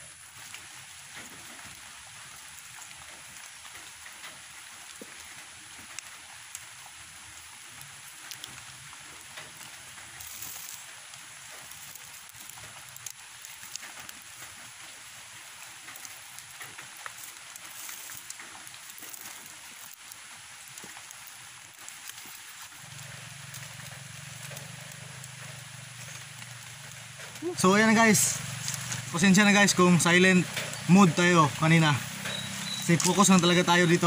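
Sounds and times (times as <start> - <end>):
light rain hissing: 0.0 - 34.0.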